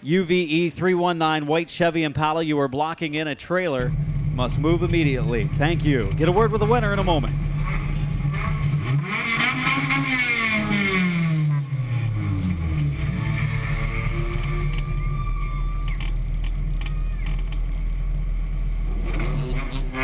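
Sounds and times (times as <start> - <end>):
car engine note falling in pitch: 3.8 - 20.0
race car engines running: 3.8 - 20.0.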